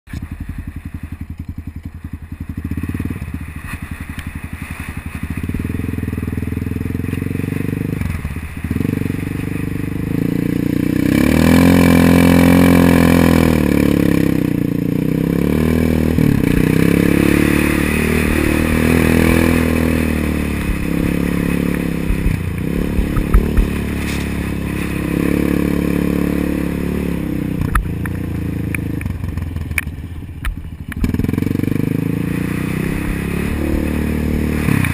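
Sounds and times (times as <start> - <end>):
atv engine revving: 0.1 - 34.9.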